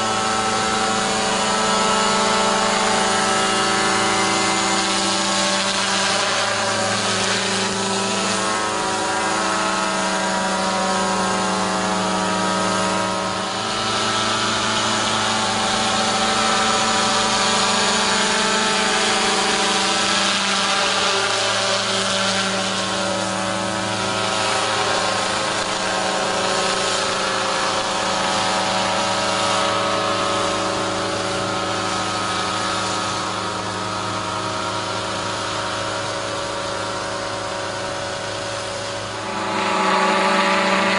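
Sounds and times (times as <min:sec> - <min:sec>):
sprayer engine running: 0:00.0 - 0:40.9.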